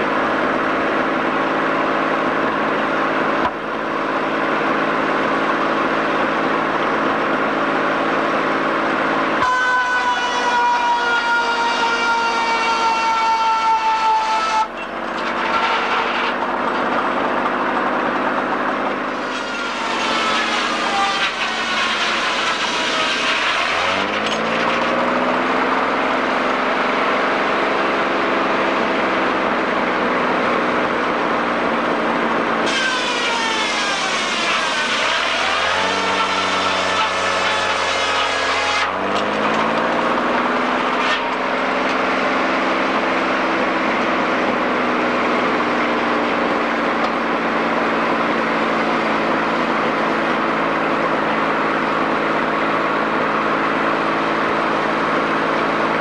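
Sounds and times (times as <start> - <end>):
high saw whine: 0.0 - 56.0
sawmill machinery drone: 0.0 - 56.0.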